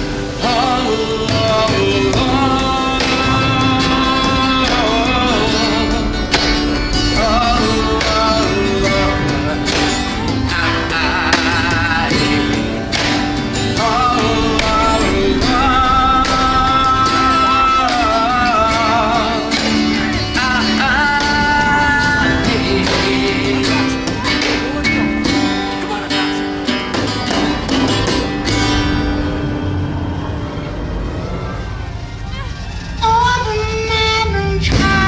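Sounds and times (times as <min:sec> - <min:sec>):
person singing with vibrato: 0:00.0 - 0:29.1
plucked guitar: 0:00.0 - 0:35.0
steady beat: 0:00.6 - 0:30.4.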